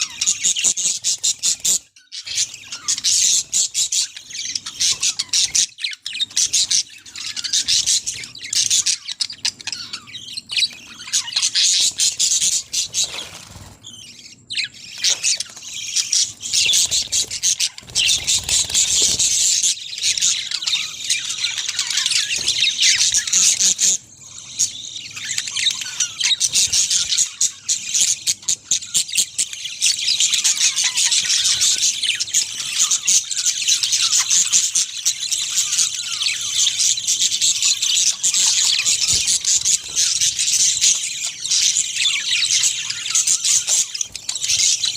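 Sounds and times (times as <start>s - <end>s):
flock of budgerigars chattering: 0.0s - 44.9s.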